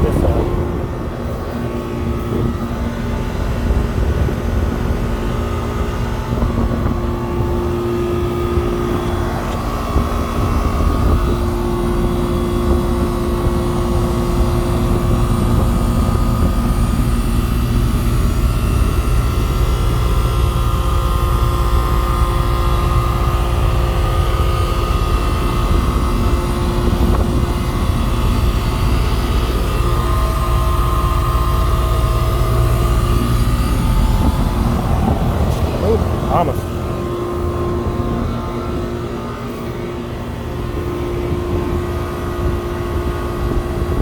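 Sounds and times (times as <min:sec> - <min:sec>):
compressor hum: 0:00.0 - 0:44.0
condenser fan rushing: 0:00.0 - 0:44.0.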